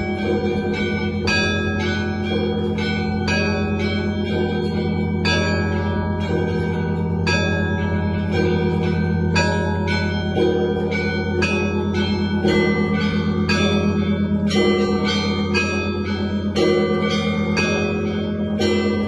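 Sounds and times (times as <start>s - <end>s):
low hum of big bells: 0.0s - 19.0s
small church bells pealing: 0.0s - 19.0s.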